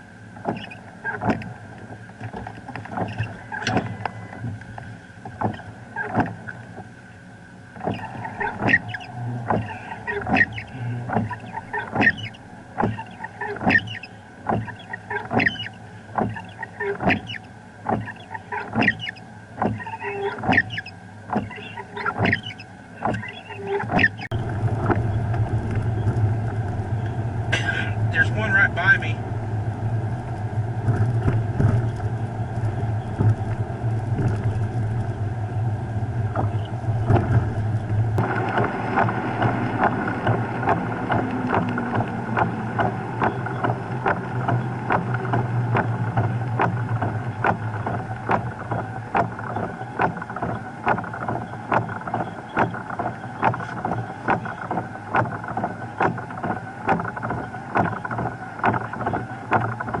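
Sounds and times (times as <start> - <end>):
vehicle engine humming: 0.0 - 60.0
regular ticking: 7.8 - 60.0.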